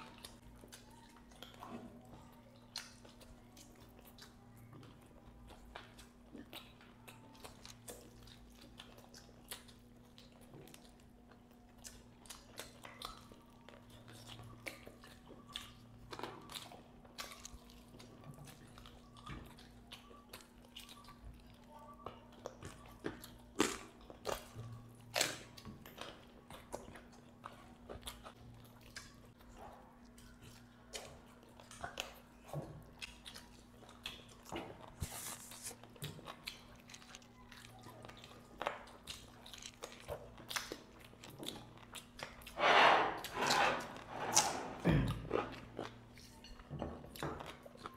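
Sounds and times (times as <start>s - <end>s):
wet chewing and bites: 0.0s - 42.6s.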